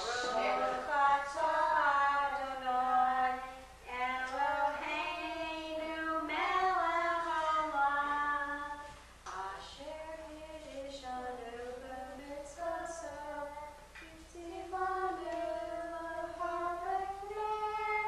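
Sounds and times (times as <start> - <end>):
people singing unaccompanied: 0.0 - 18.0.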